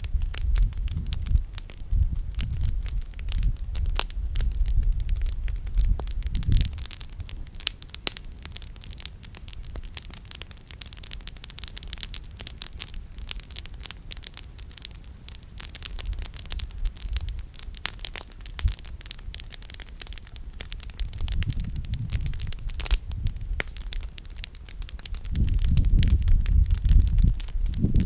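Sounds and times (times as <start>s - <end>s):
campfire crackling and popping: 0.0s - 28.0s
low fire rumble: 0.0s - 28.0s.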